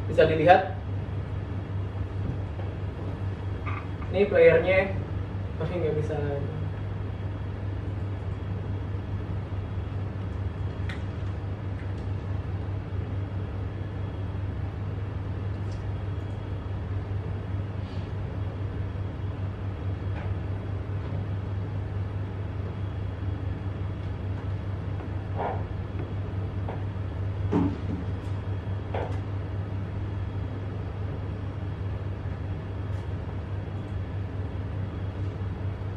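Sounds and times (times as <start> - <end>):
low room hum: 0.0 - 35.9.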